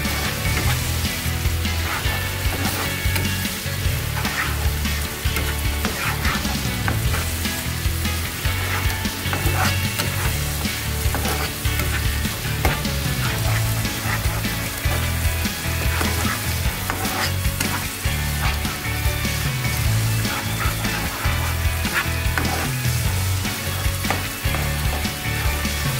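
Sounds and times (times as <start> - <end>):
sauce sizzling in a frying pan: 0.0 - 25.9
spatula scraping a pan: 0.0 - 25.9
spitting sauce: 0.0 - 25.9.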